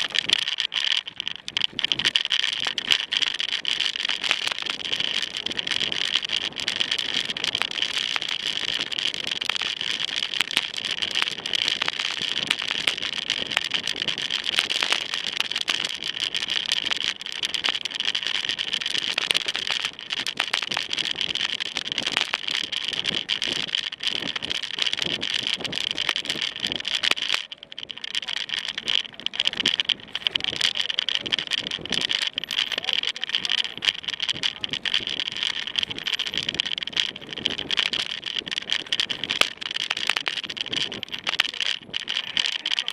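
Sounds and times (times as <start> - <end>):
bike rattling: 0.0 - 42.9
bike tyres on gravel: 0.0 - 42.9.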